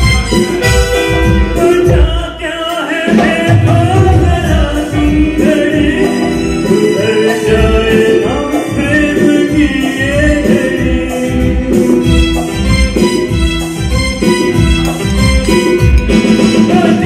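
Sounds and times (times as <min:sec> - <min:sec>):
person singing: 0:00.0 - 0:12.5, 0:15.4 - 0:17.0
keyboard chords: 0:00.0 - 0:17.0
hand drum beat: 0:03.0 - 0:17.0.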